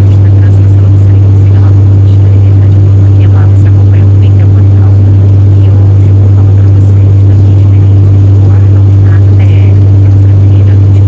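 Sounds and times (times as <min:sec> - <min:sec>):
faint steady hum: 0:00.0 - 0:11.0
propeller drone in cabin: 0:00.0 - 0:11.0.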